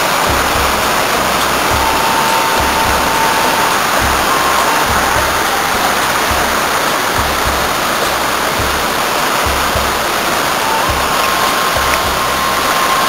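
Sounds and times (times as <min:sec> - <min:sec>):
low rumbles: 0:00.0 - 0:13.0
waterfall roaring: 0:00.0 - 0:13.0.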